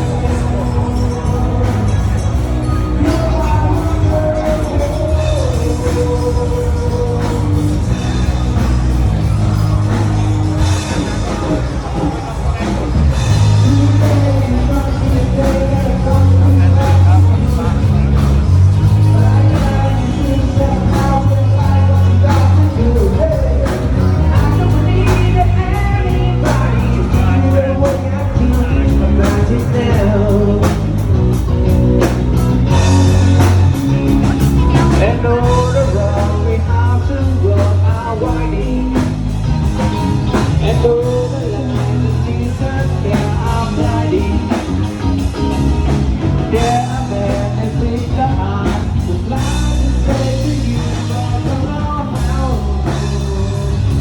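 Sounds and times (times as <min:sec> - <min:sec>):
heavy bass and drum beat: 0:00.0 - 0:54.0
person singing: 0:00.0 - 0:54.0.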